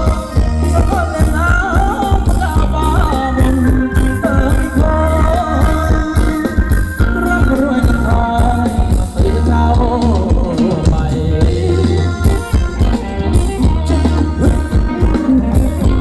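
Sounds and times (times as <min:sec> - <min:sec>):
band music with wavering singing: 0:00.0 - 0:16.0
heavy bass and drum beat: 0:00.0 - 0:16.0.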